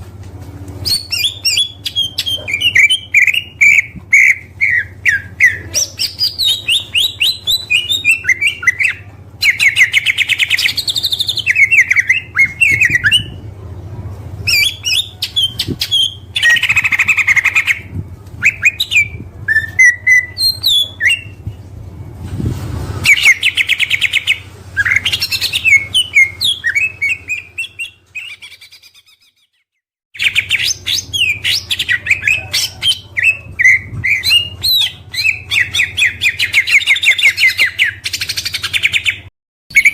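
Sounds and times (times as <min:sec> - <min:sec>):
bird singing whistles and trills: 0:00.8 - 0:13.4, 0:14.4 - 0:21.5, 0:23.0 - 0:29.4, 0:30.2 - 0:39.9.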